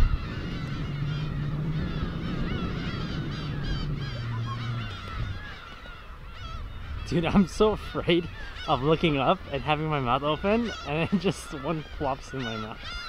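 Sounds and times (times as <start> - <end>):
seagulls calling: 0.0 - 13.0.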